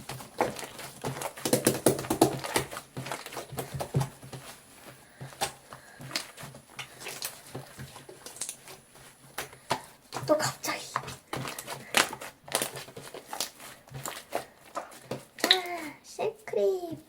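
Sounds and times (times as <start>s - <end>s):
slime squishing with wet clicks: 0.0s - 16.0s.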